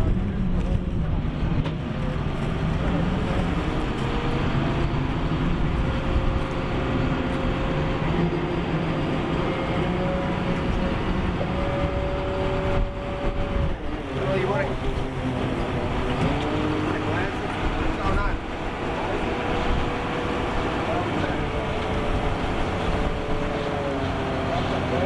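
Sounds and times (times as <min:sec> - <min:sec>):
boat engine droning: 0:00.0 - 0:25.0
wind and water rushing: 0:00.0 - 0:25.0.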